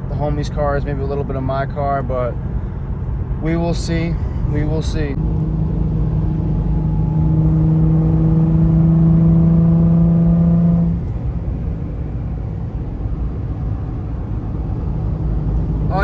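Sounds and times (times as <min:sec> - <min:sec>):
car engine droning: 0:00.0 - 0:16.0
low road rumble: 0:00.0 - 0:16.0.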